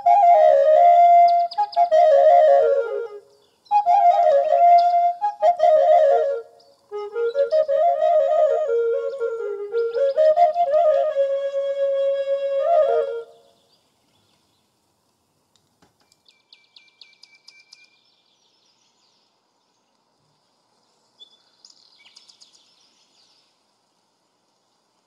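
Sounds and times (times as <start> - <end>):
light background hiss: 0.0 - 25.0.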